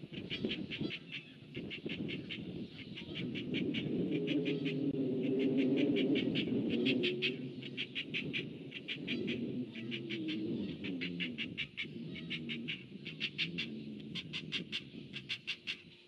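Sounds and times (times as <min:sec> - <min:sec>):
birds honking: 0:00.2 - 0:16.0.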